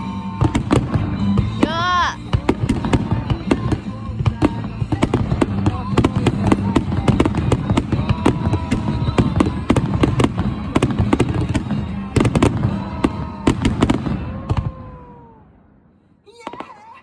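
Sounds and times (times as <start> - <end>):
music playing: 0.0 - 14.6
fireworks bangs and crackles: 0.0 - 17.0.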